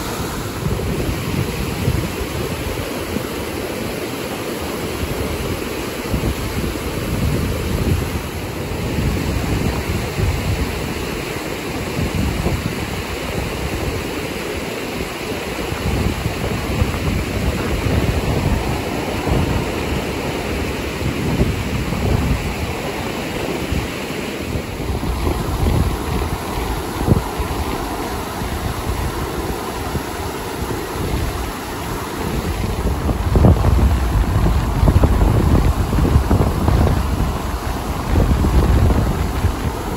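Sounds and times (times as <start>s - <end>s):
stream rushing over rapids: 0.0s - 39.9s
wind buffeting microphone: 0.0s - 39.9s.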